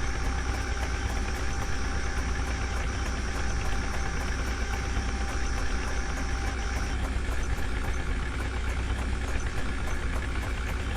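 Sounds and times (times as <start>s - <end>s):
diesel engine running: 0.0s - 10.9s.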